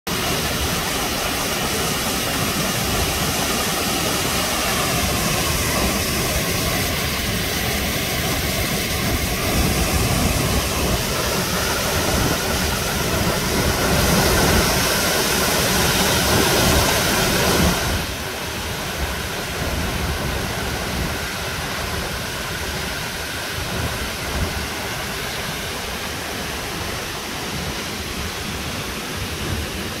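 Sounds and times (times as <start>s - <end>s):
fast-flowing river: 0.1s - 30.0s
waterfall rushing: 0.1s - 30.0s.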